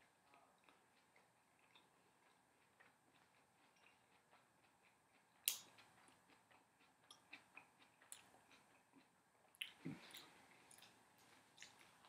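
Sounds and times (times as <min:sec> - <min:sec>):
faint chewing with mouth clicks: 0:00.0 - 0:12.0.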